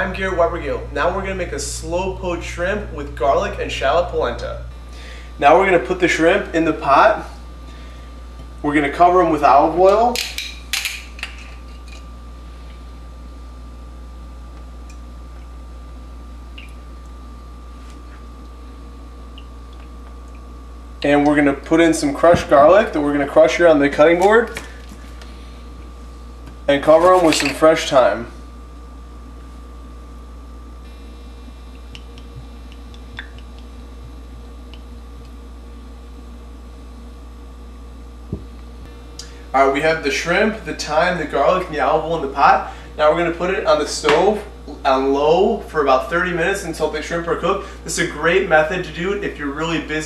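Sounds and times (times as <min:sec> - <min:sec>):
low electrical hum: 0:00.0 - 0:50.0
thin constant whine: 0:00.0 - 0:50.0.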